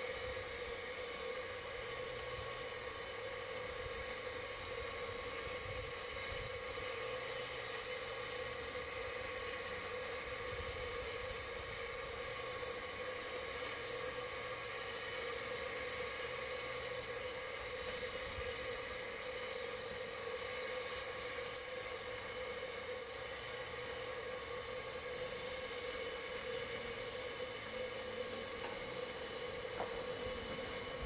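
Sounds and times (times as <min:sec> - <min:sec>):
steady hum: 0:00.0 - 0:31.0
steam locomotive hissing: 0:00.0 - 0:31.0.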